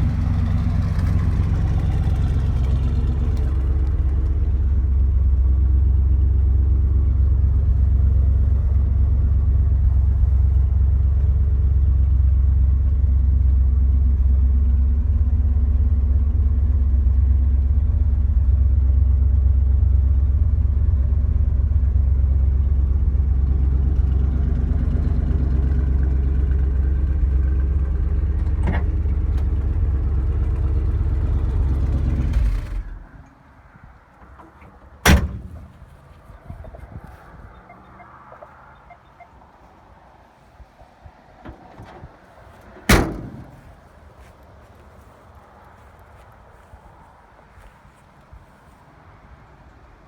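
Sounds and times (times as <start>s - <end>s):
car engine idling: 0.0s - 48.8s.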